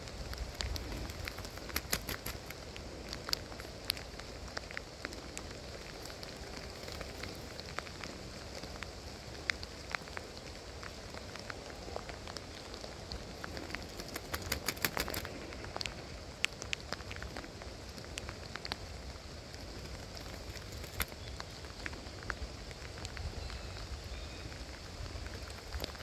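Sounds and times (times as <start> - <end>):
raindrops ticking: 0.0 - 26.0
steady rain hiss: 0.0 - 26.0.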